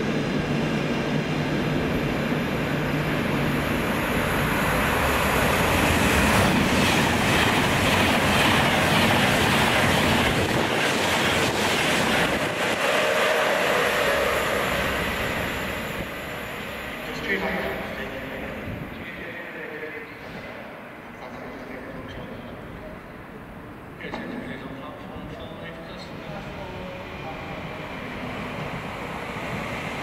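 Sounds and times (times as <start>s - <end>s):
train passing on rails: 0.0s - 30.0s.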